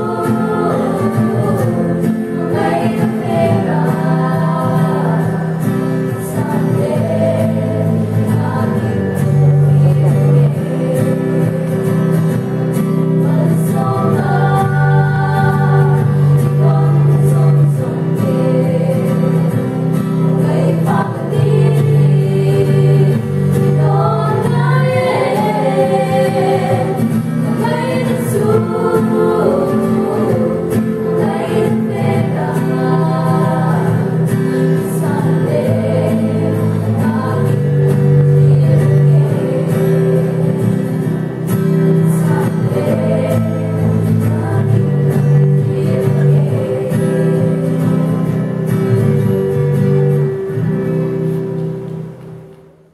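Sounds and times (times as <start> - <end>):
women singing a church song: 0.0 - 49.4
acoustic guitar: 0.0 - 52.9.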